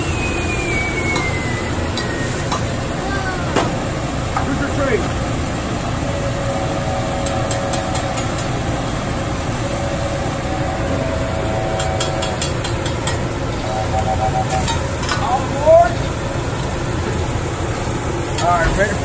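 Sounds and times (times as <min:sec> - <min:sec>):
steady low rumble: 0:02.7 - 0:19.0.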